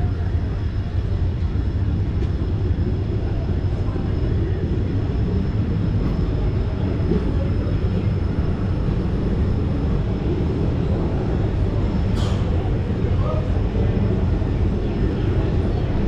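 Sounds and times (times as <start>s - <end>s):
train wheels rumbling on rails: 2.0s - 16.0s.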